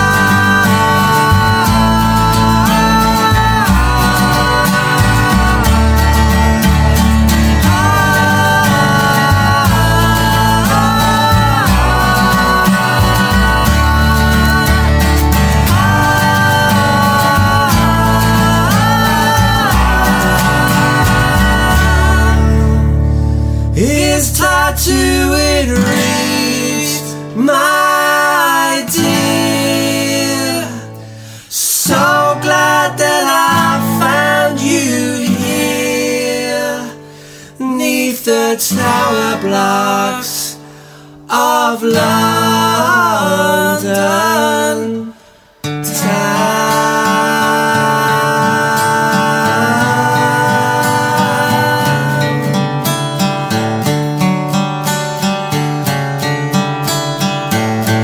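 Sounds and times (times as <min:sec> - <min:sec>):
men singing: 0:00.0 - 0:23.1, 0:23.8 - 0:52.7
acoustic guitars: 0:00.0 - 0:58.0.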